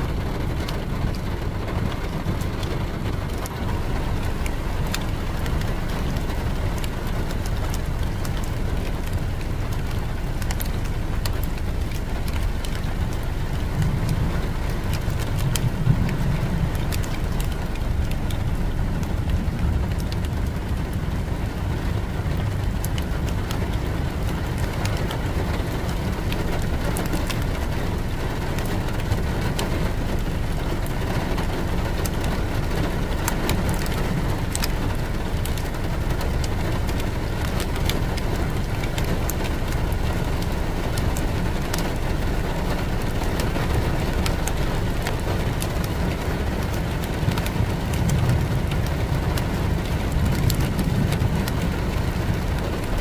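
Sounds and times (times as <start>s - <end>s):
car engine rumbling: 0.0s - 53.0s
tyres on road: 0.0s - 53.0s.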